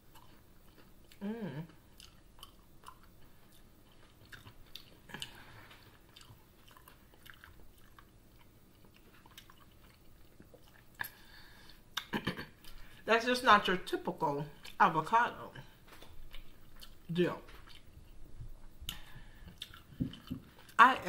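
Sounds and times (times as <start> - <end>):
person chewing food: 0.0 - 13.0, 14.6 - 14.8, 15.6 - 20.8.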